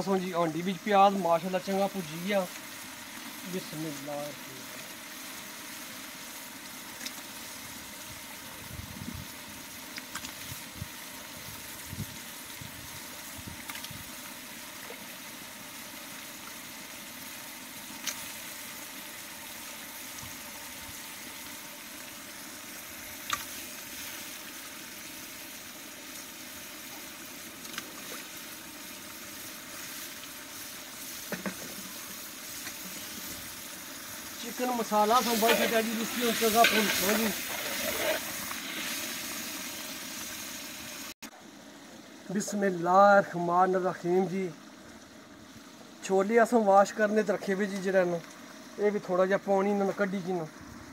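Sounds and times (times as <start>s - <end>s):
oil and onions sizzling in a pot: 0.0s - 50.9s.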